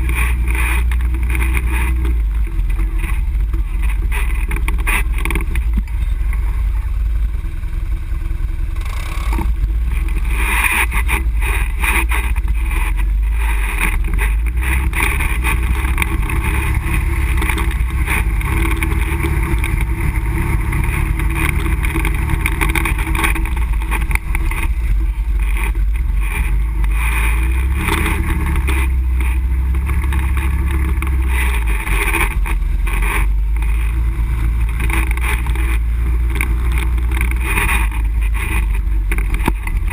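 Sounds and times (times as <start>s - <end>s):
atv engine running: 0.0s - 39.9s
knocks and rattles over bumps: 0.0s - 39.9s.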